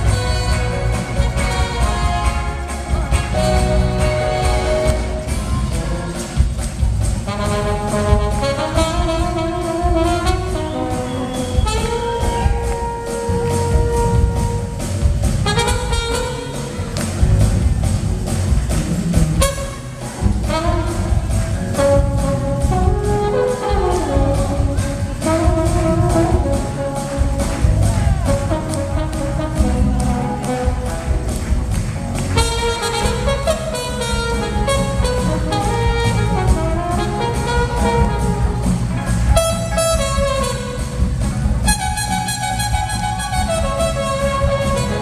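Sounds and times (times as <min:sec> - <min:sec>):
trumpet and saxophone melody: 0:00.0 - 0:17.6, 0:19.0 - 0:45.0
bass: 0:00.0 - 0:45.0
steady drum beat: 0:00.0 - 0:45.0.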